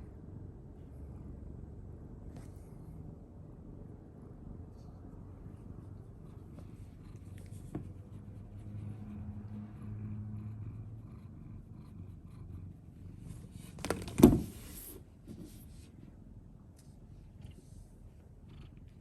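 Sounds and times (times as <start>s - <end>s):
cat purring: 0.1s - 13.8s, 17.2s - 19.0s.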